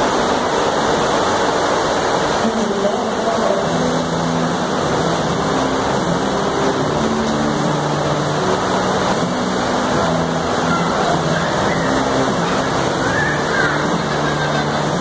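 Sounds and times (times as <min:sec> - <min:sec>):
water gushing into pool: 0:00.0 - 0:15.0.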